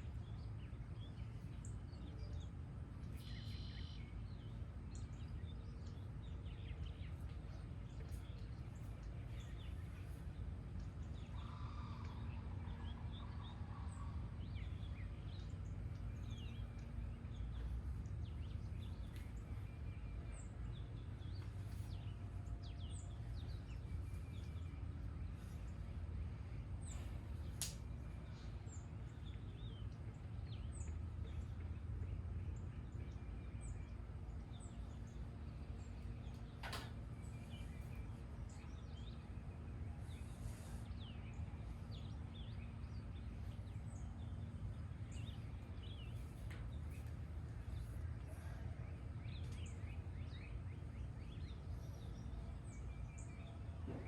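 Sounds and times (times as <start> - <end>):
birds chirping and singing: 0.0 - 54.0
low background rumble: 0.0 - 54.0.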